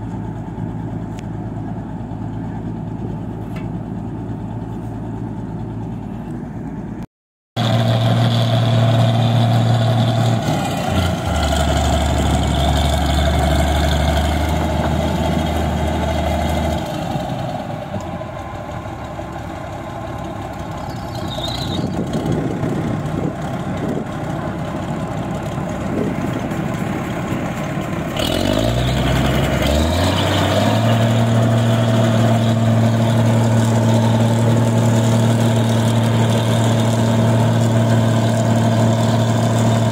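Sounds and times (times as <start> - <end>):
combine harvester working: 0.0 - 39.9.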